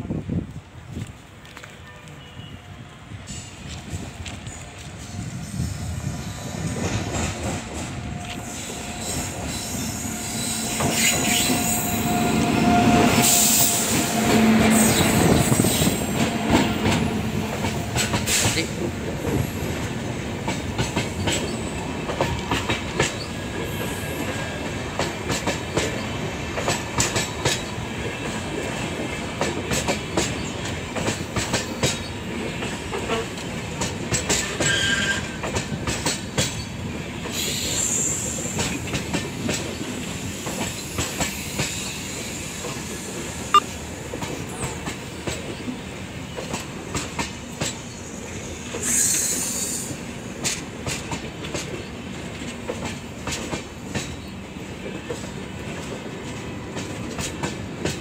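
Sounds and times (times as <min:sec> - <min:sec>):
electric locomotive passing: 0:00.0 - 0:58.0
train coaches rumbling: 0:00.0 - 0:58.0.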